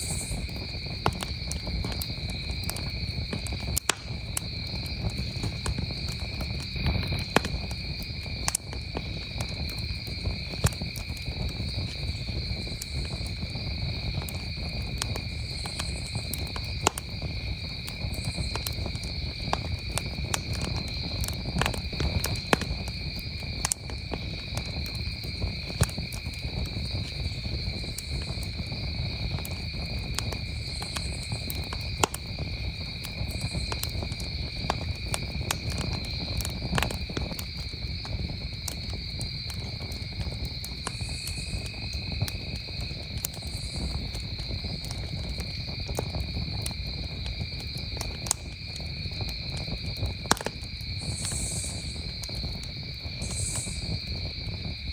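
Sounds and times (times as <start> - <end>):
campfire crackling: 0.0 - 54.9
crickets trilling: 0.0 - 54.9.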